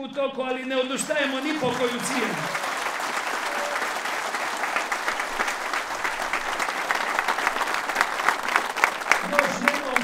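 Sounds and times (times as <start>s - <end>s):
crowd applauding: 0.9s - 10.0s.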